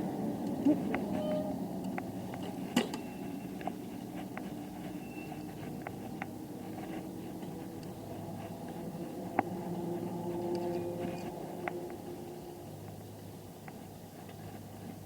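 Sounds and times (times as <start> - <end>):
tyres and wind rumbling: 0.0 - 15.0.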